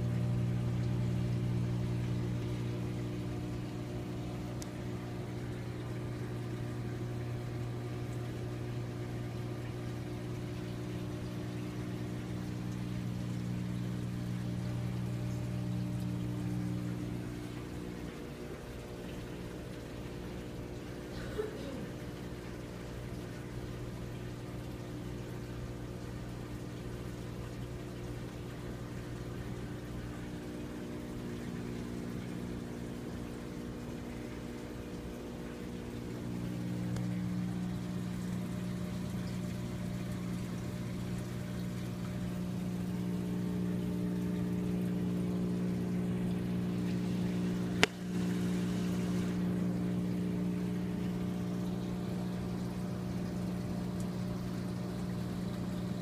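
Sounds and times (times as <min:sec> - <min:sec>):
aquarium pump hum: 0:00.0 - 0:56.0
water splashing and trickling: 0:00.0 - 0:56.0.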